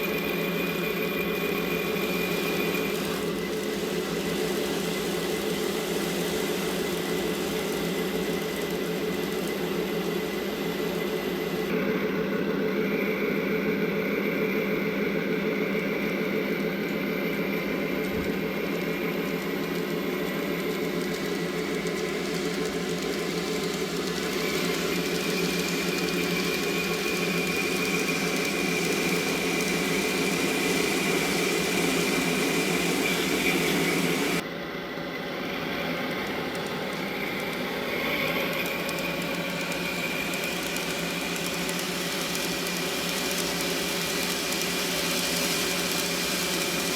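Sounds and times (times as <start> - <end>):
recorded diesel locomotive engine: 0.0 - 46.9.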